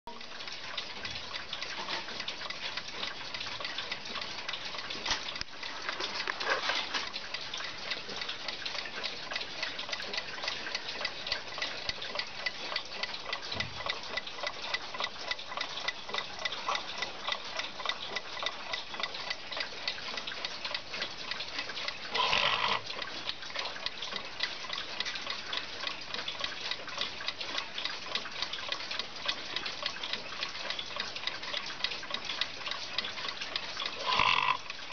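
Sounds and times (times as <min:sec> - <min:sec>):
alarm clock ticking: 0:00.1 - 0:06.4, 0:07.1 - 0:34.8.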